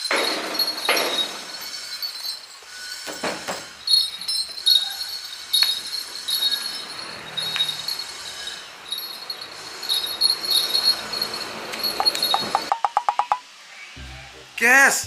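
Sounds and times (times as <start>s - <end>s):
metallic jingling and clinking: 0.0s - 13.4s.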